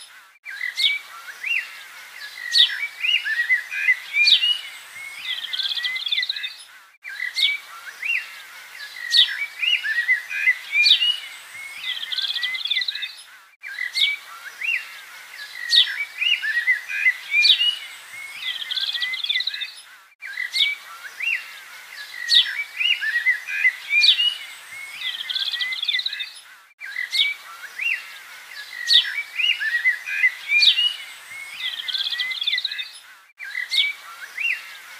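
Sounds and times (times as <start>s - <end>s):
birds chirping and trilling: 0.0s - 34.9s.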